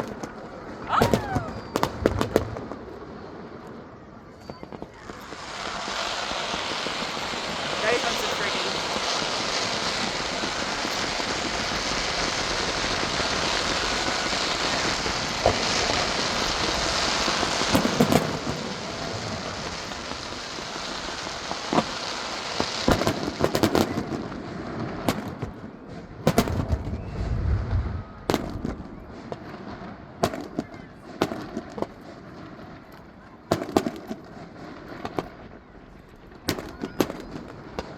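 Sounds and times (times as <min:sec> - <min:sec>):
fireworks crackling hiss: 0:00.0 - 0:35.6
fireworks bangs and cracks: 0:00.0 - 0:37.9.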